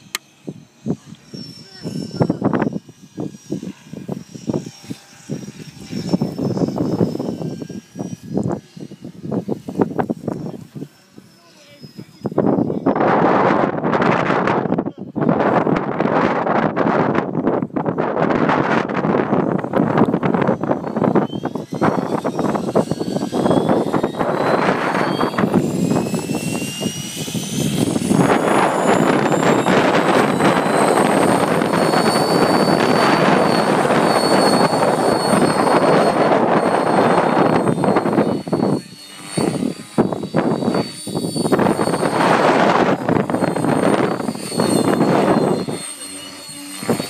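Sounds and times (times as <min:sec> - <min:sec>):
model helicopter engine and rotor whine: 0:00.0 - 0:47.0.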